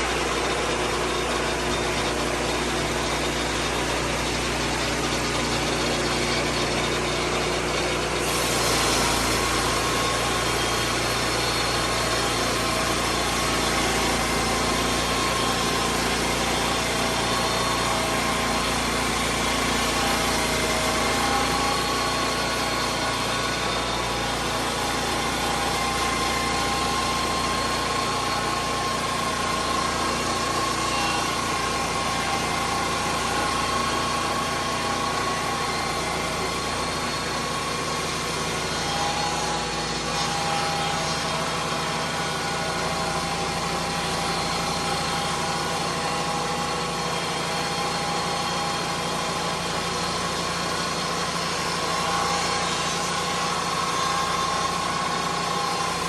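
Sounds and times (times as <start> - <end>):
sawmill petrol engine running: 0.0 - 56.0.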